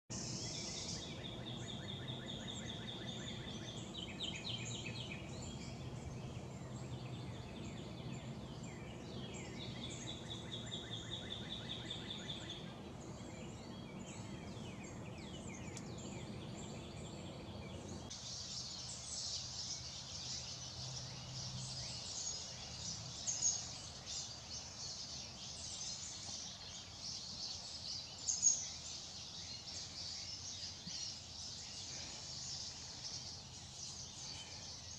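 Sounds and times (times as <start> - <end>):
bird chirping: 0.1 - 34.9
low steady hum: 0.1 - 34.9.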